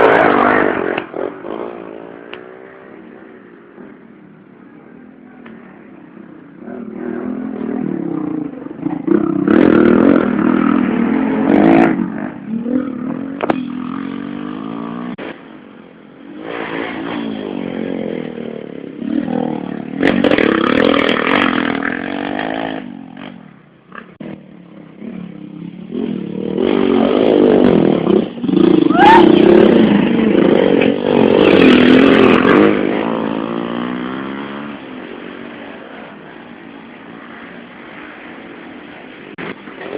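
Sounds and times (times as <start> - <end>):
motorcycles revving past: 0.0 - 4.5, 5.8 - 39.9.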